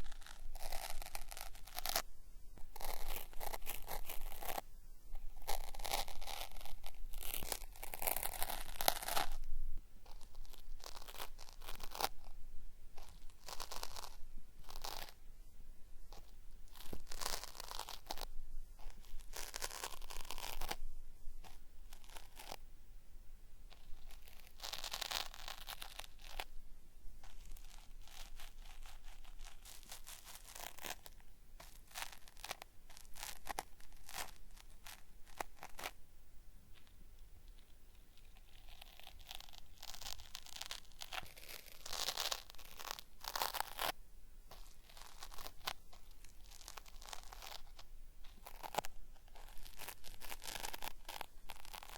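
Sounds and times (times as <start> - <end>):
cotton swab scraping microphone: 0.0 - 22.6, 23.6 - 36.0, 36.7 - 51.9.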